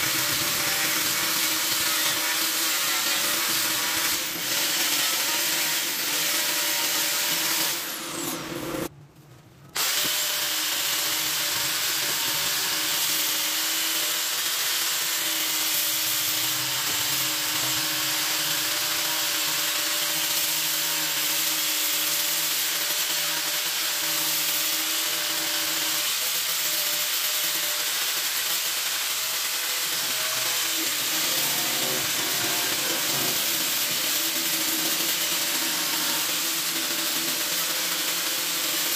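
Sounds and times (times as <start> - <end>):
angle grinder sanding wood: 0.0 - 8.9, 9.8 - 38.9.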